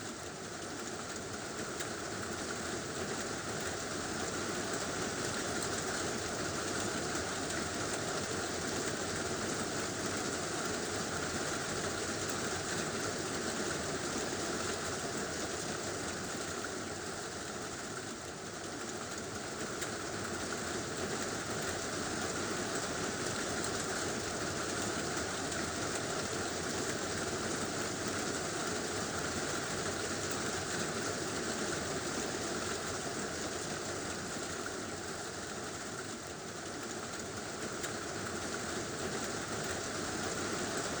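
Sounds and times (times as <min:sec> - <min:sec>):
heavy rain on a tin roof: 0:00.0 - 0:41.0.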